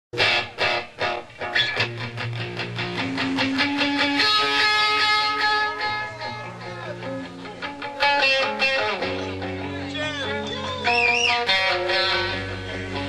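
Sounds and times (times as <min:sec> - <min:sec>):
electric guitar notes: 0:00.2 - 0:13.0
live rock band playing: 0:00.2 - 0:13.0.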